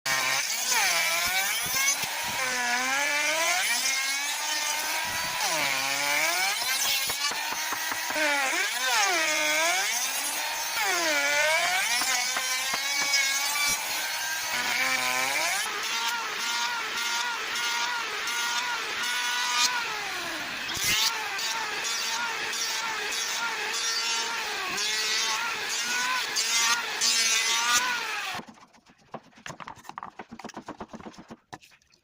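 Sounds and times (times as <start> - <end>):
power tool cutting wood: 0.1 - 28.6.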